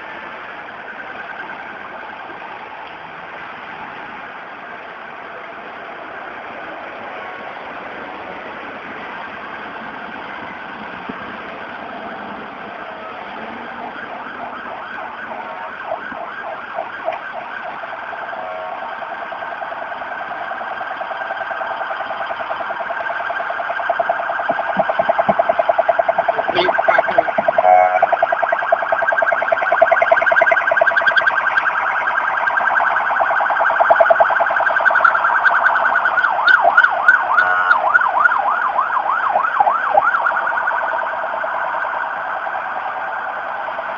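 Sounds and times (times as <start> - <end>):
emergency siren warbling: 0.0 - 43.9.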